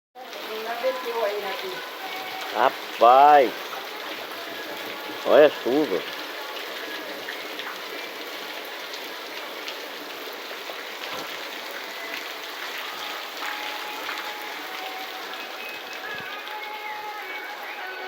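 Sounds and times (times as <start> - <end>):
heavy rain falling: 0.2 - 18.0.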